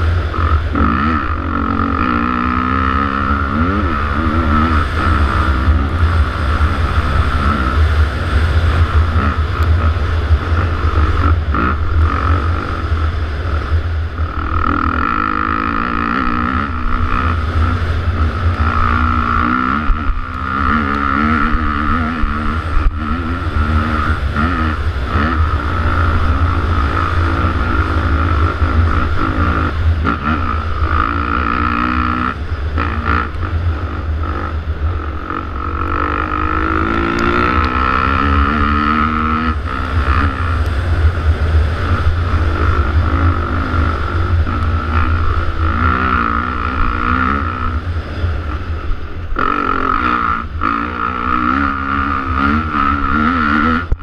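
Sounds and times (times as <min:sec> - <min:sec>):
motorcycle engine revving: 0:00.0 - 0:54.0
wind rumble on microphone: 0:00.0 - 0:54.0.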